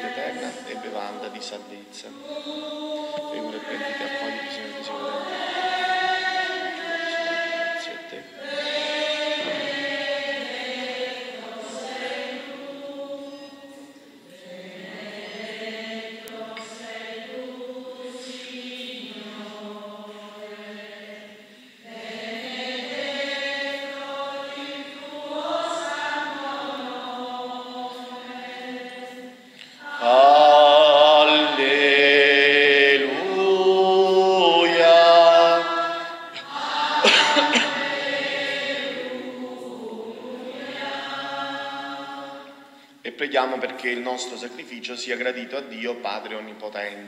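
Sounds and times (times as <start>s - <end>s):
congregation singing a hymn: 0.0s - 47.0s.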